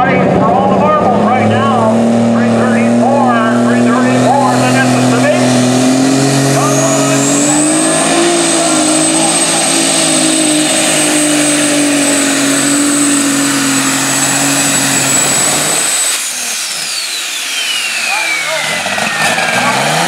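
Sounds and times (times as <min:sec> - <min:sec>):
high turbo whine: 0:00.0 - 0:20.0
tractor engine running flat out: 0:00.0 - 0:20.0.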